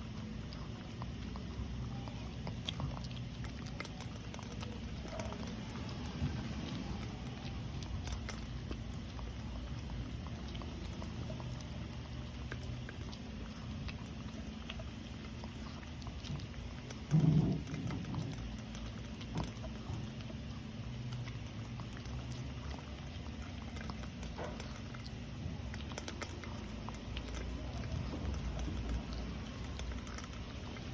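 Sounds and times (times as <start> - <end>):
dog chewing and crunching food: 0.0 - 30.9.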